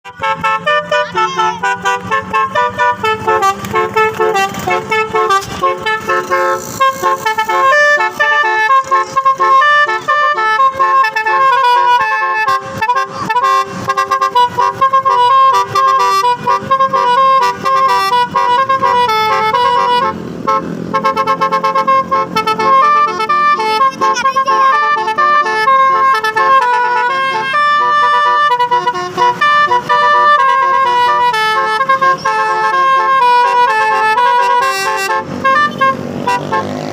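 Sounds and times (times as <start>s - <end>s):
musical air horn melody: 0.0s - 36.9s.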